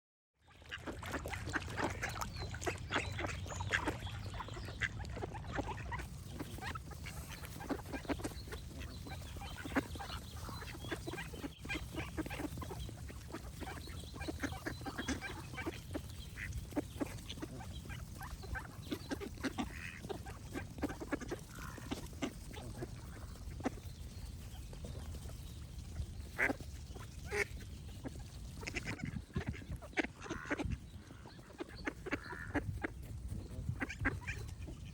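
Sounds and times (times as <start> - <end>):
ducks quacking: 0.5 - 34.9.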